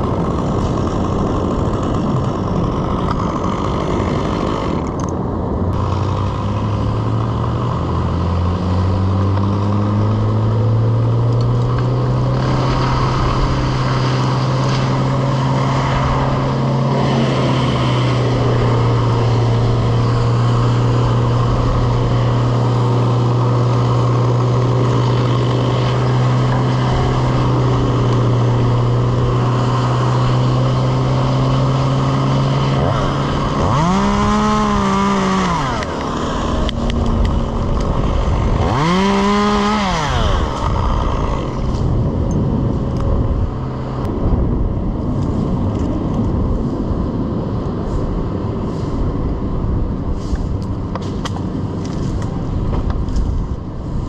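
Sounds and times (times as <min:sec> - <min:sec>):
engine revving: 0:00.0 - 0:44.3.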